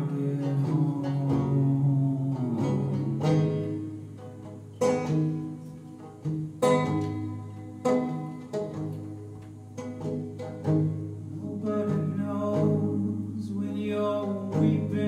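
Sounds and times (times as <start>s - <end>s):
banjo chords plucked: 0.0s - 15.0s.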